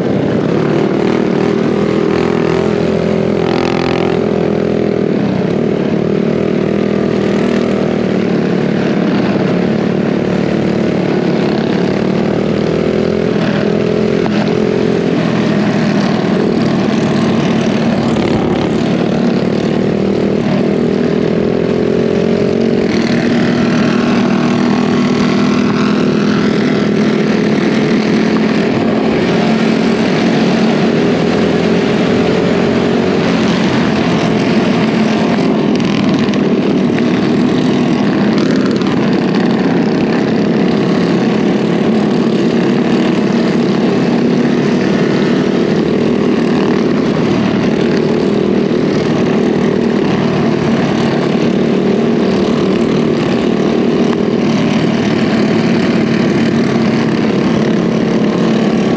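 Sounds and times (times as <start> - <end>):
small engine at high revs: 0.0 - 58.9
wind and road noise: 0.0 - 58.9.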